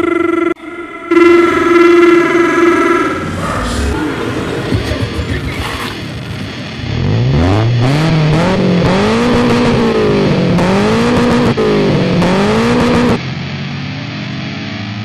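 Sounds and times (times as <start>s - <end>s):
engine revving: 0.6s - 15.0s.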